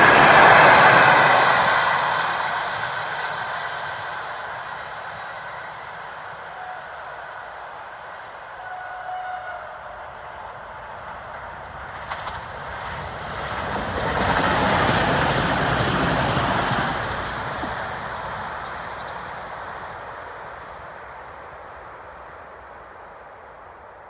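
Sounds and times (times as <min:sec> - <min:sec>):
electric train passing at speed: 0:00.0 - 0:24.0.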